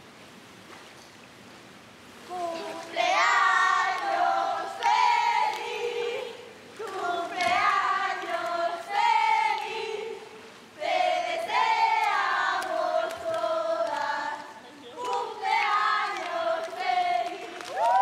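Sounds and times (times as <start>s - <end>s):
women singing together: 2.3s - 18.0s.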